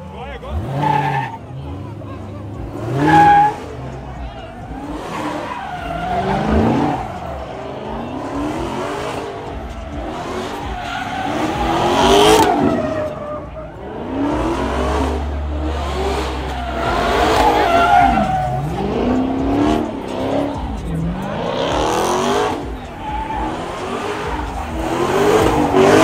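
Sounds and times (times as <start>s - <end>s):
car engine revving: 0.0s - 26.0s
tyres screeching: 0.0s - 26.0s.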